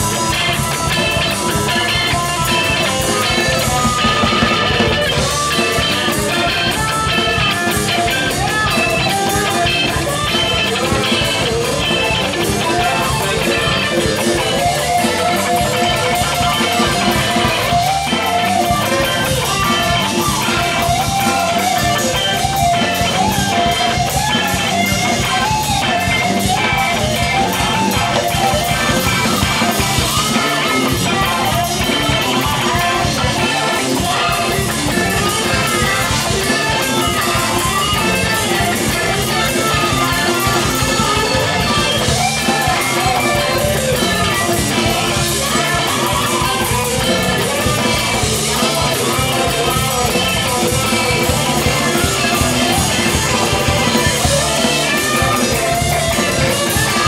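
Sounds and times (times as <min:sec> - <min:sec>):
bass guitar: 0:00.0 - 0:57.0
drum kit: 0:00.0 - 0:57.0
electric guitar lead: 0:00.0 - 0:57.0.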